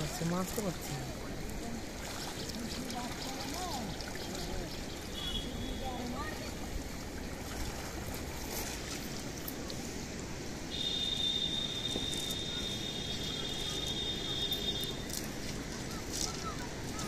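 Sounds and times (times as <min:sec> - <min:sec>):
splashing and dripping water: 0:00.0 - 0:17.0.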